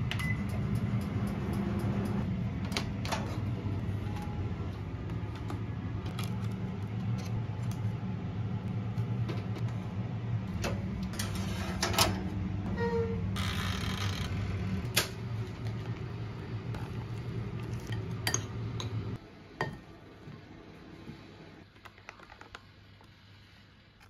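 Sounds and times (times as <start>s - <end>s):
kitchen appliance hum: 0.0s - 21.6s.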